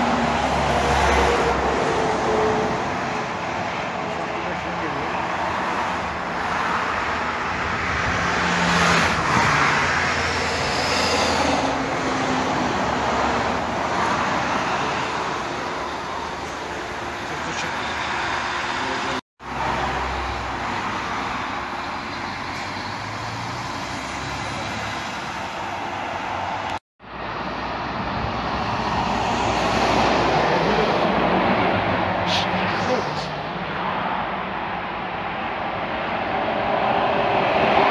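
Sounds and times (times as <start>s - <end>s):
highway traffic passing: 0.0s - 37.9s.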